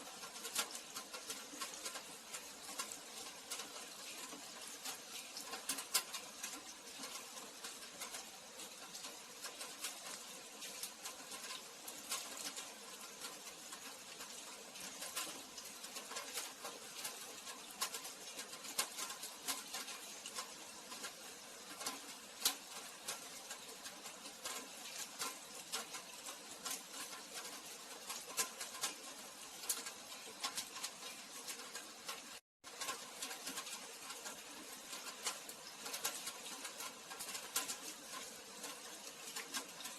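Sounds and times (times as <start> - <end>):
rain drops on hard surfaces: 0.0 - 39.9.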